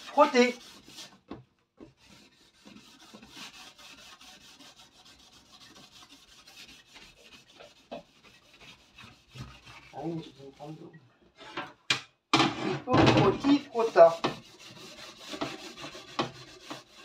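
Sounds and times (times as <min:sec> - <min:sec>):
sponge scrubbing wire rack: 0:00.0 - 0:01.2, 0:01.9 - 0:10.9, 0:12.5 - 0:17.0.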